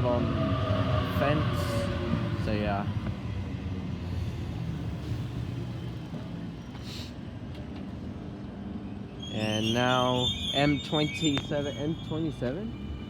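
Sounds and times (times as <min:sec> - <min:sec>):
electric train low rumble and hum: 0:00.0 - 0:13.0.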